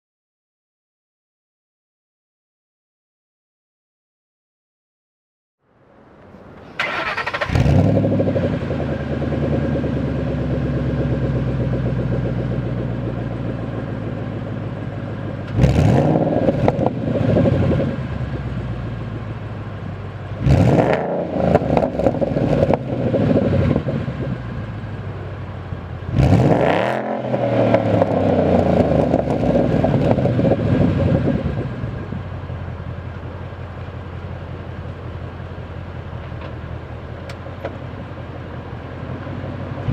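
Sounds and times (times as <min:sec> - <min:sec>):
car engine revving and idling: 0:06.3 - 0:39.9.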